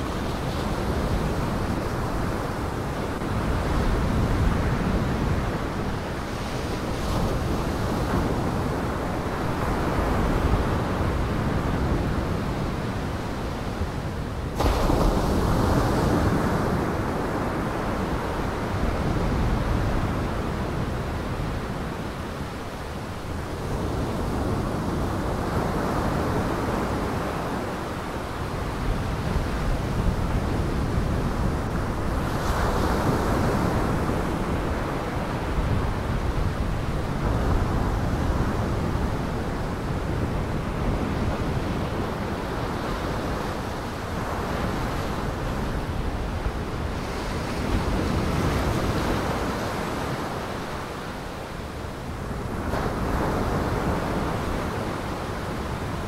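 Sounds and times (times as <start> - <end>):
waves washing in: 0.0 - 56.0
wind: 0.0 - 56.0.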